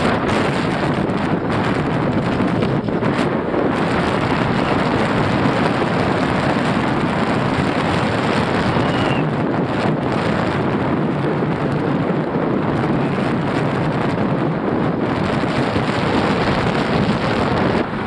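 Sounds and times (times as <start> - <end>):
cart wheels rumbling on asphalt: 0.0 - 18.0
wind buffeting microphone: 0.0 - 18.0.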